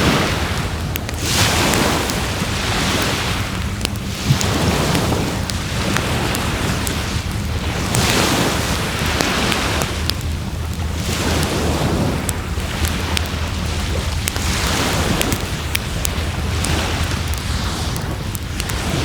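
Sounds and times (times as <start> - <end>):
surf washing onto shore: 0.0 - 19.0
wood fire crackling and popping: 0.0 - 19.0.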